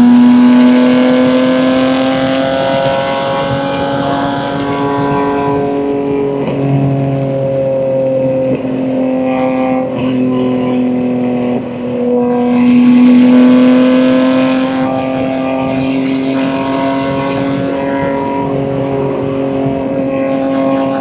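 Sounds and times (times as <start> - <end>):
car engine exhaust while driving: 0.0 - 21.0.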